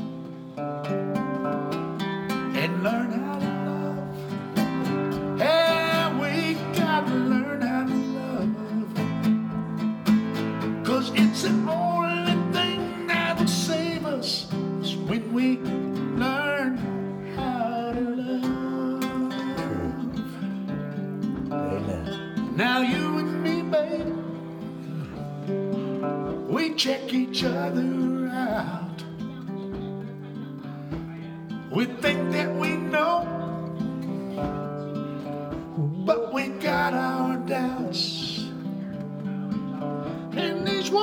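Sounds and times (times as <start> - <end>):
strummed classical guitar: 0.0 - 41.0
man singing: 2.3 - 41.0.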